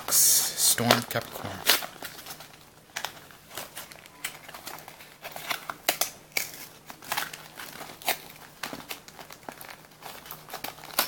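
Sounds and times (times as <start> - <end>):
packaging crinkling: 0.7 - 11.0.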